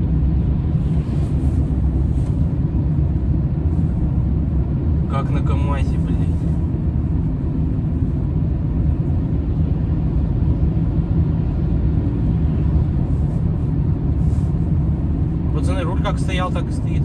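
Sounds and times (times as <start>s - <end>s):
tyres humming on road: 0.0s - 17.0s.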